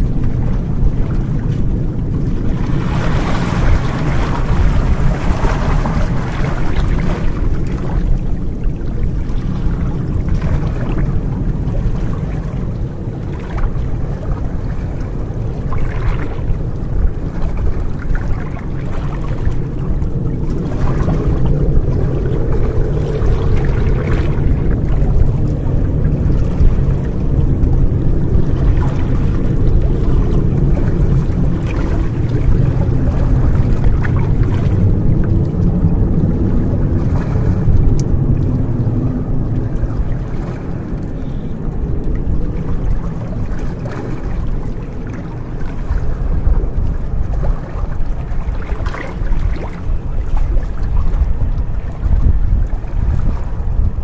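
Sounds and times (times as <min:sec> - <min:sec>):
low rumble: 0:00.0 - 0:54.0
waves splashing against rocks: 0:00.0 - 0:54.0.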